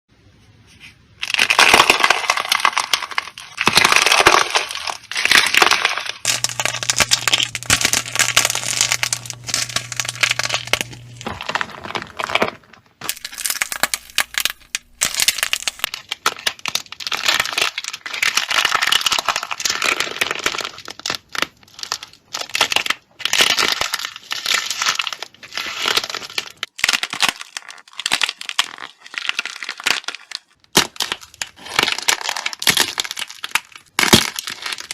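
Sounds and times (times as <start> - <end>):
crunchy slime crackling: 1.2 - 34.9.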